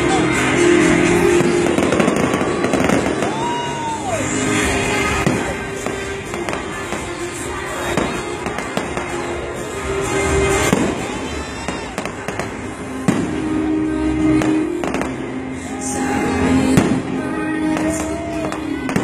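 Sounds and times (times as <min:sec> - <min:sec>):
fireworks bursts: 0:00.0 - 0:19.0
loud music: 0:00.0 - 0:19.0.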